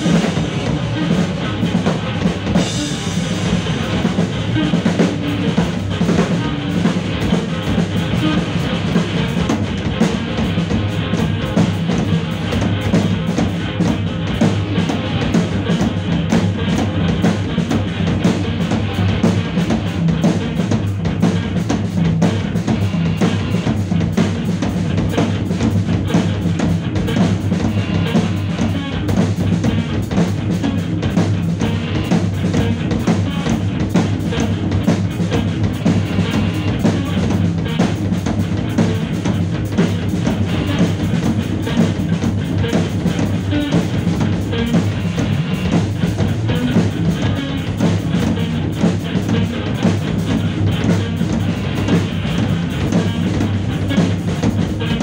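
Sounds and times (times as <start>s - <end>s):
fast dense drumming: 0.0s - 55.0s.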